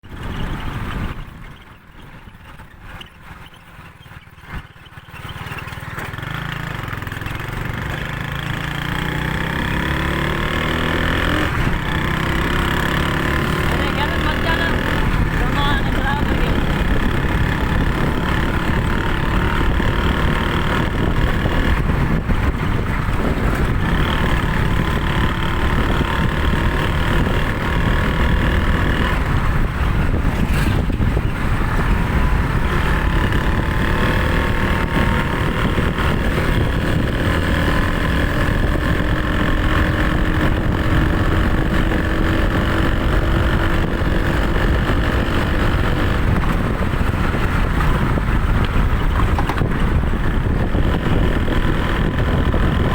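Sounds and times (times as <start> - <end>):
vehicle engine running: 0.0 - 52.9
wind buffeting microphone: 0.0 - 52.9.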